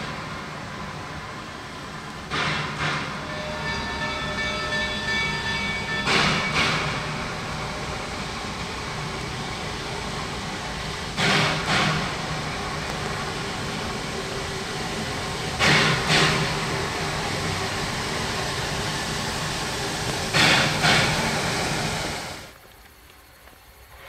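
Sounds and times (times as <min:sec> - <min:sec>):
steam locomotive chuffing: 0:00.0 - 0:22.5.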